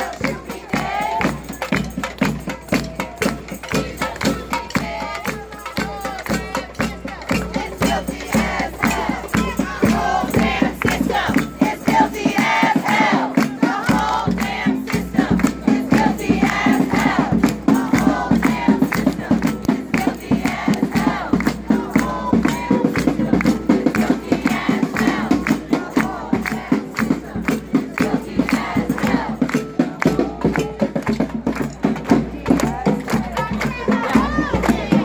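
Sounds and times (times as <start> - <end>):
crowd chanting: 0.0 - 35.0
steady drumbeat: 0.0 - 35.0.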